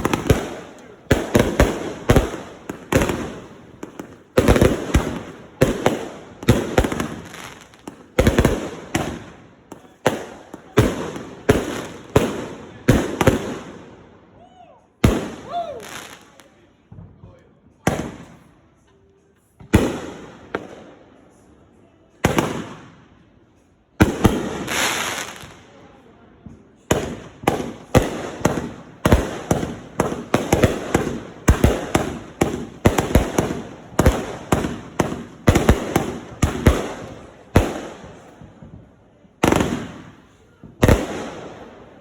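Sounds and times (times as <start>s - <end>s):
firework bangs with crackling tail: 0.0s - 13.9s, 15.0s - 18.5s, 22.2s - 23.0s, 24.0s - 25.6s, 26.4s - 42.0s.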